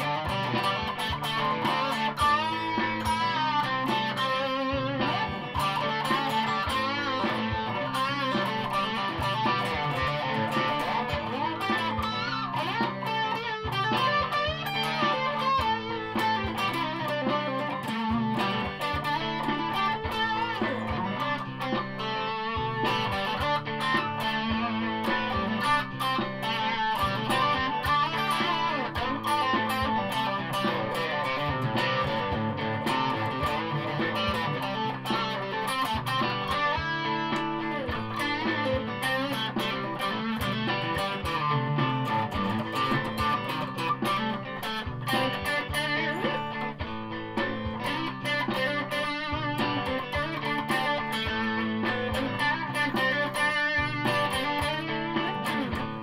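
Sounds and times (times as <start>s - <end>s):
electric guitar through amplifier: 0.0s - 56.0s.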